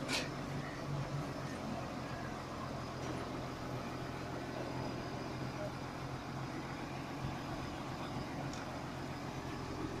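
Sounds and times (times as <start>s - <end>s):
crane diesel engine running: 0.0s - 10.0s.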